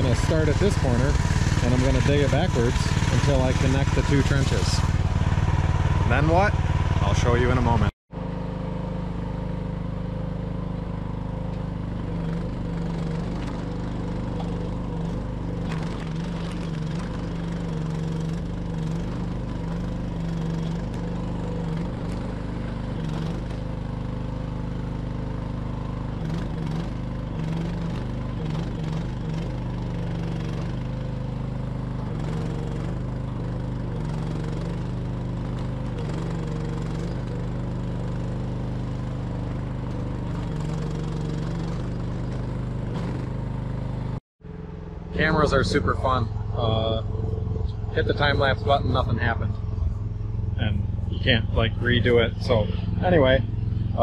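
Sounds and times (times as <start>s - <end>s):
excavator engine running under load: 0.0s - 54.0s.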